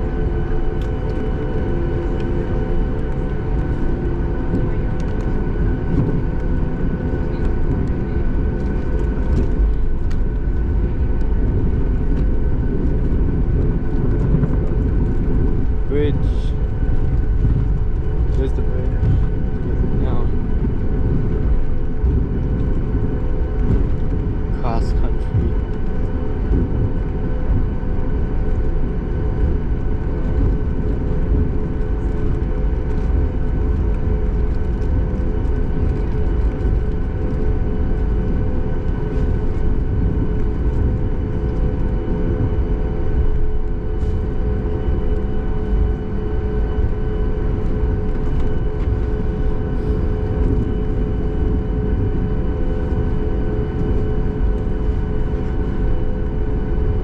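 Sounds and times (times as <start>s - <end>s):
aircraft cabin low rumble: 0.0s - 57.0s
jet engine whine: 0.0s - 57.0s.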